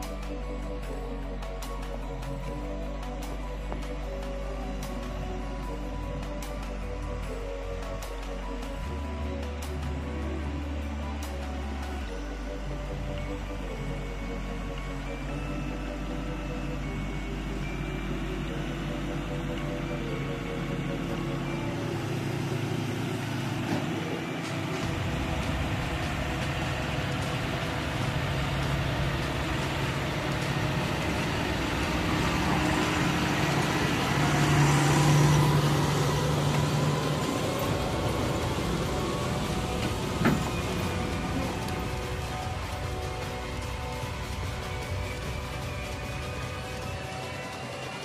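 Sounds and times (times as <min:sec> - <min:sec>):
tractor diesel engine passing: 0:00.0 - 0:48.0.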